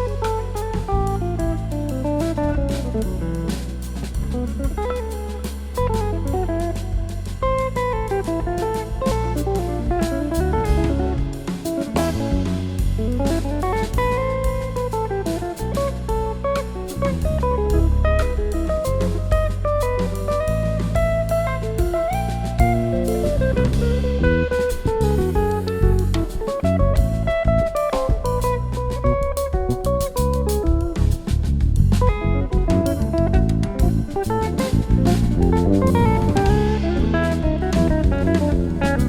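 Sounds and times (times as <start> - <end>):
bass: 0.0 - 39.0
drum kit: 0.0 - 39.0
jazz guitar quick melodic lines: 0.0 - 39.0.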